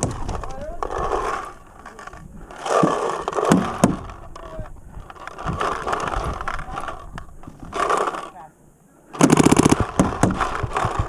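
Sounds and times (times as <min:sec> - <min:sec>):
paintball markers firing: 0:00.0 - 0:08.4, 0:09.2 - 0:11.0.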